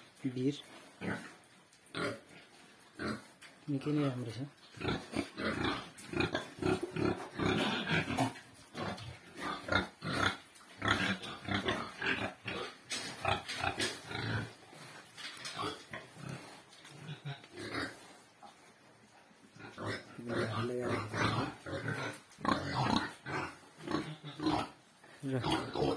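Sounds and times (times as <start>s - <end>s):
pigs grunting: 0.8s - 3.4s, 4.2s - 18.6s, 19.5s - 25.9s.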